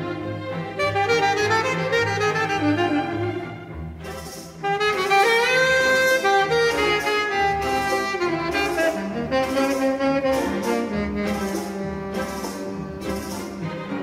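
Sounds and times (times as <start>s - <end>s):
string orchestra: 0.0s - 14.0s
tenor saxophone melody: 0.0s - 14.0s.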